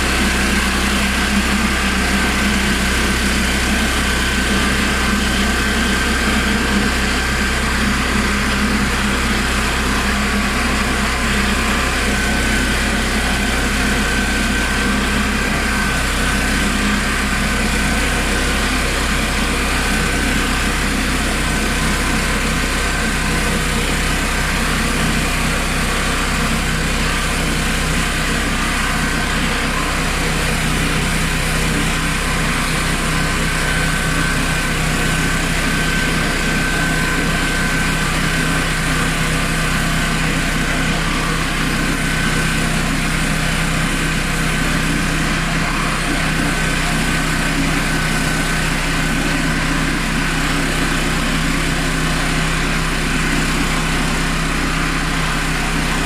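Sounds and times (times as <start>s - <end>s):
petrol engine running: 0.0s - 56.0s.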